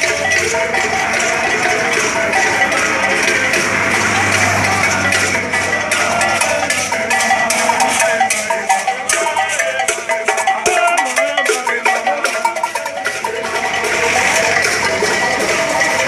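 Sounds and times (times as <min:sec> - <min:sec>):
group singing and chanting: 0:00.0 - 0:16.0
rapid percussion strikes: 0:00.0 - 0:16.0.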